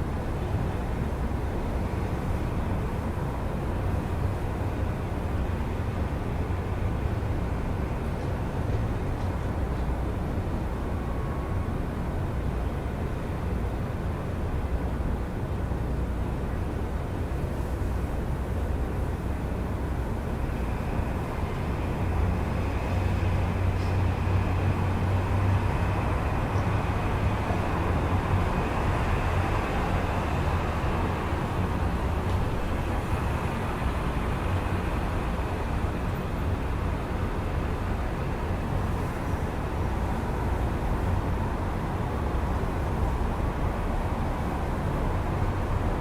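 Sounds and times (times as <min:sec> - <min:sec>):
city traffic rumble: 0:00.0 - 0:46.0.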